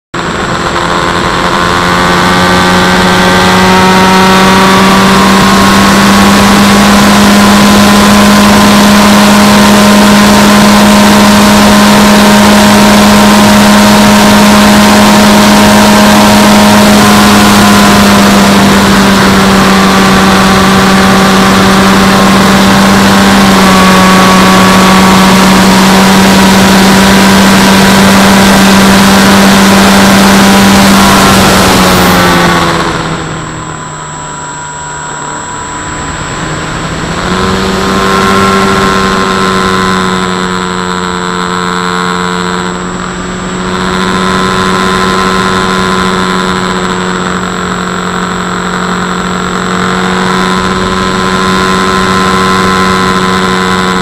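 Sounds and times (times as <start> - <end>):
electric motor and propeller hum: 0.1 - 54.0
rushing wind: 0.1 - 54.0.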